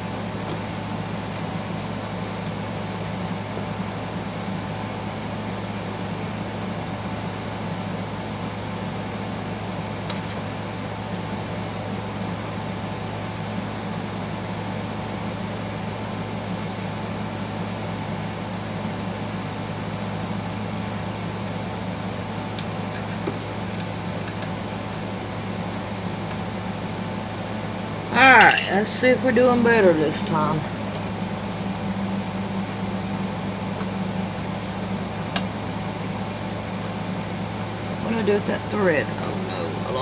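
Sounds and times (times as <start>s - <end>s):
fan humming: 0.0s - 40.0s.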